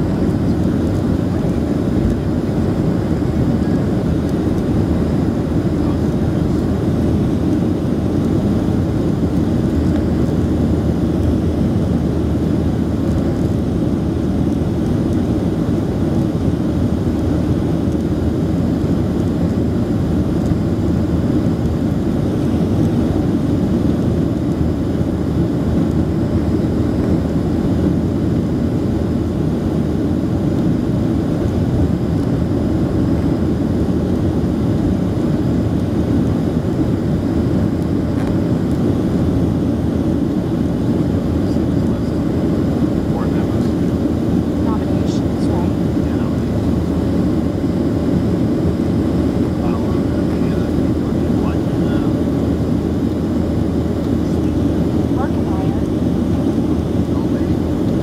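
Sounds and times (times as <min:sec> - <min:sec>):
airplane cabin engine noise: 0:00.0 - 0:58.0.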